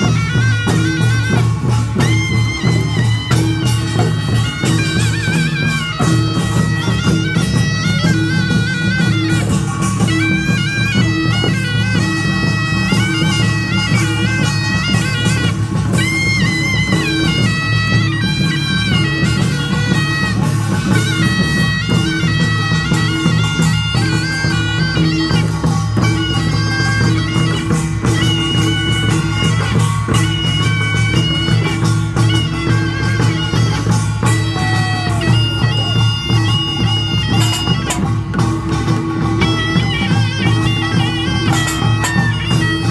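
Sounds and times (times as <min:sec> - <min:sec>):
gongs and drums beating: 0:00.0 - 0:42.9
shawm melody: 0:00.0 - 0:42.9.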